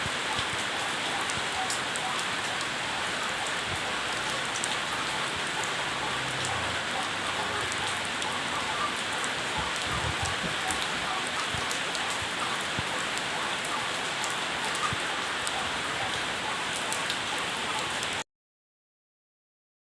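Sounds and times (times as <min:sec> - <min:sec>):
steady rain falling: 0:00.0 - 0:18.2.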